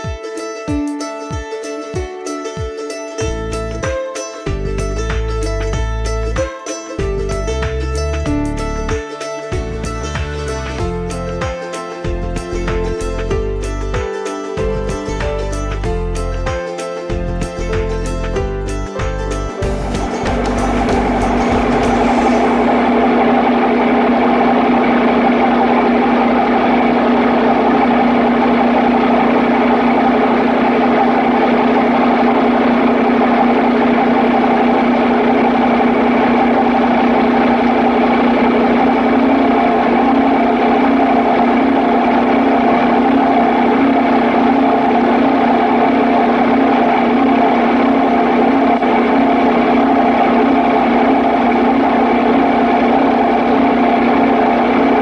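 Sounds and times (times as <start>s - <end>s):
engine running steadily: 3.1s - 55.0s.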